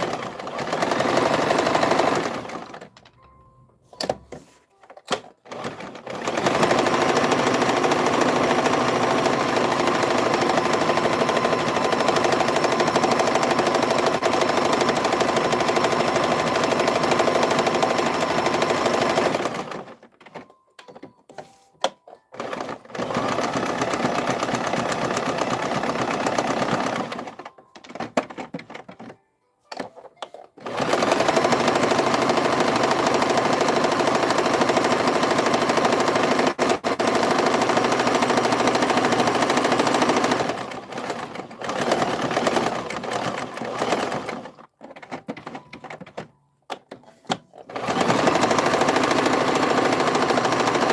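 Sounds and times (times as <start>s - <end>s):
sewing machine stitching: 0.0s - 3.0s, 5.1s - 20.4s, 22.3s - 29.2s, 30.2s - 46.3s, 47.0s - 50.9s.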